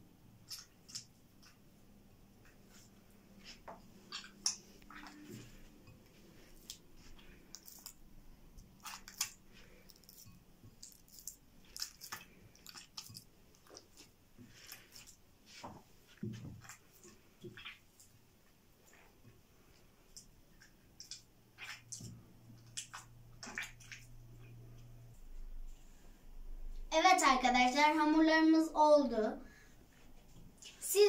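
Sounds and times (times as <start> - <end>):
hands kneading sticky dough: 0.0 - 26.3.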